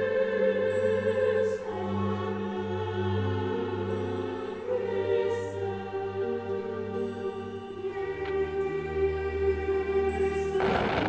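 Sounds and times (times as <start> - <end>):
orchestral music with choir: 0.0 - 11.0.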